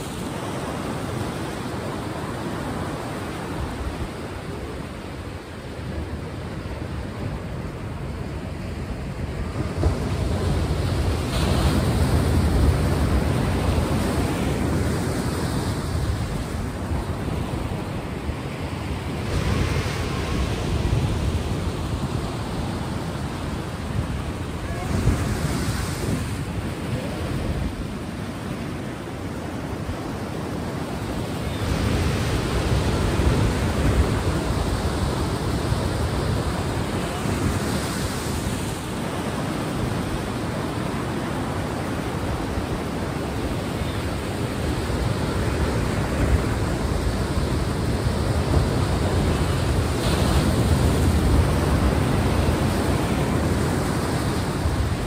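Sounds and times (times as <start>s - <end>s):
surf on shore: 0.0s - 55.0s.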